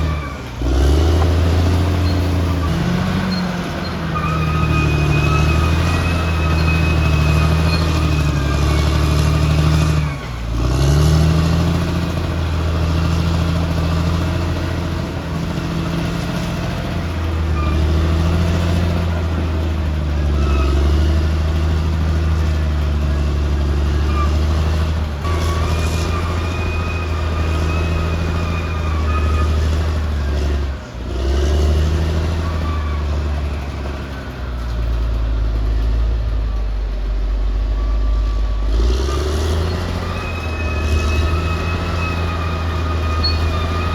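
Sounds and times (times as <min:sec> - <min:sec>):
bulldozer diesel engine under load: 0:00.0 - 0:43.9.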